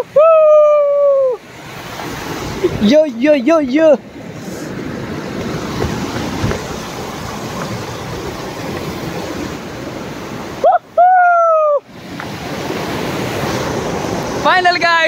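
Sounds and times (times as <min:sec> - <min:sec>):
stream rushing over boulders: 0:00.0 - 0:15.0.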